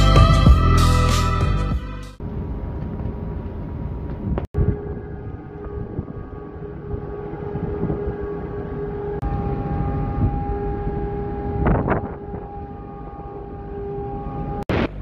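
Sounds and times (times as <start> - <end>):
low rumble: 2.2 - 15.0.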